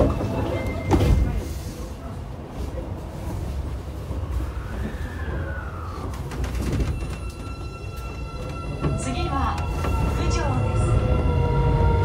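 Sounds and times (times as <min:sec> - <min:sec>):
subway inverter whine: 0:00.0 - 0:12.0.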